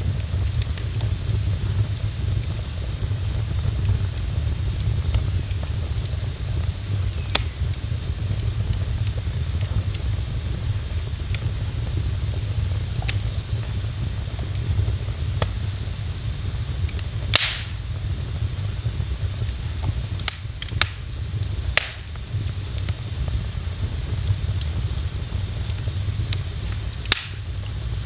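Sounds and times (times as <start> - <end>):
fire popping: 0.0 - 28.0
low rumble and hiss: 0.0 - 28.0
wood fire crackling: 0.0 - 28.0.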